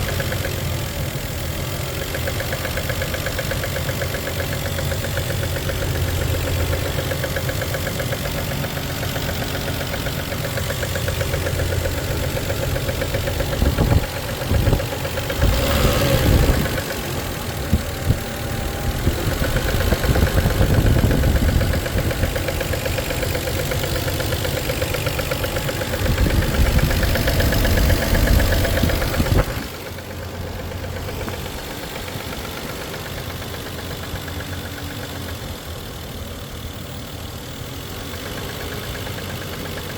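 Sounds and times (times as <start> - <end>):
engine running with knock: 0.0 - 39.9.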